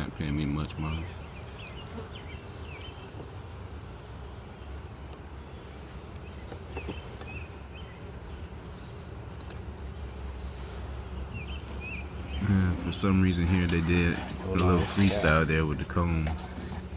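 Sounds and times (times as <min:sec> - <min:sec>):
honeybees buzzing: 0:00.7 - 0:16.9.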